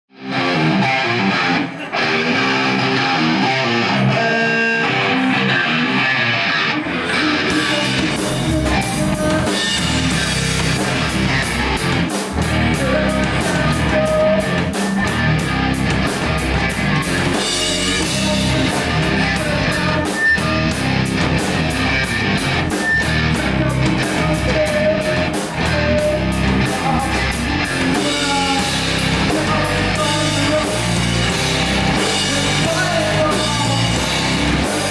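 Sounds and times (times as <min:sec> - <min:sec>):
bass guitar: 0:00.0 - 0:34.9
electric guitars: 0:00.1 - 0:34.9
rock drums: 0:00.1 - 0:34.9.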